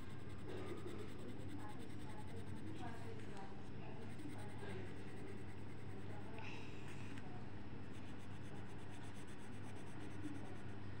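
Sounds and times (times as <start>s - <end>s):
pencil scratching on paper: 0.0s - 6.4s, 7.9s - 10.8s
steady low hum: 0.0s - 11.0s.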